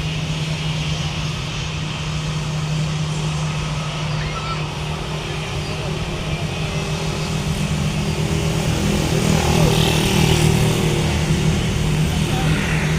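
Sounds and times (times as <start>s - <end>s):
jet engines running: 0.0s - 12.9s.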